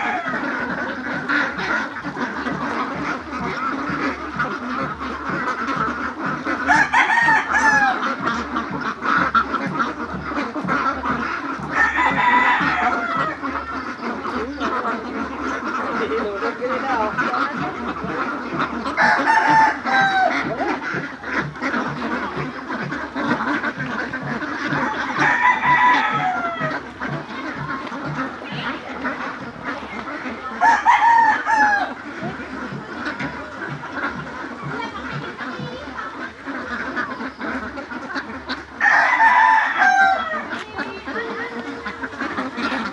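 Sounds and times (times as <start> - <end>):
flock of ducks quacking: 0.0 - 42.9.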